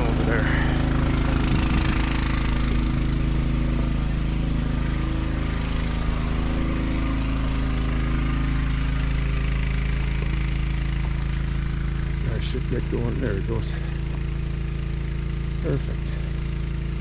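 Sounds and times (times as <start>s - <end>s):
water pump engine running: 0.0s - 17.0s.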